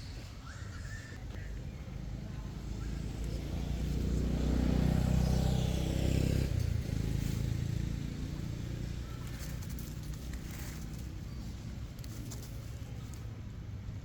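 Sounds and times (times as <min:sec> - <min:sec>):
vehicle engine passing by: 0:01.9 - 0:13.2.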